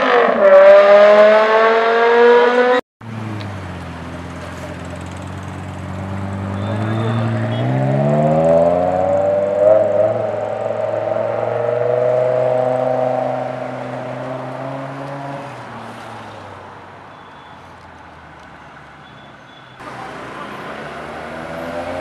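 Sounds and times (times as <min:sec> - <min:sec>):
car engine accelerating hard: 0:00.0 - 0:15.8, 0:19.8 - 0:22.0.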